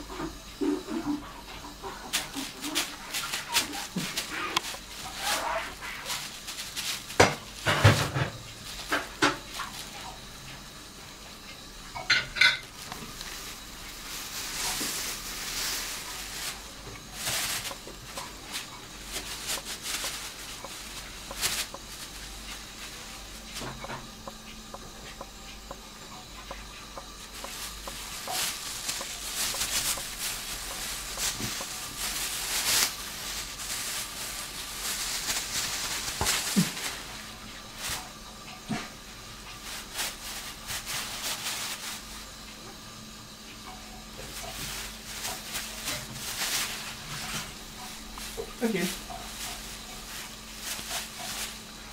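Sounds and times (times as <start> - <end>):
plastic bags crinkling: 1.1 - 10.2, 11.9 - 24.9, 26.4 - 38.2, 39.6 - 42.2, 44.2 - 51.9.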